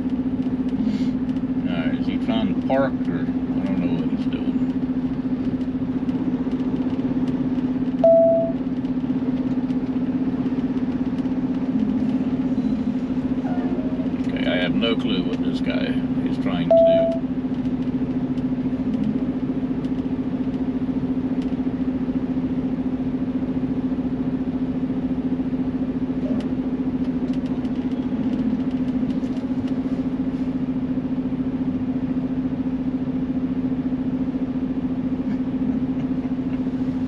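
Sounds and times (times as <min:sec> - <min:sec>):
diesel truck engine humming: 0:00.0 - 0:37.0.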